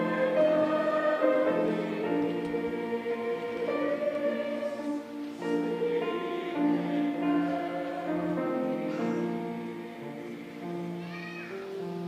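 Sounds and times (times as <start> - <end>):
choir singing held notes: 0.0 - 12.0.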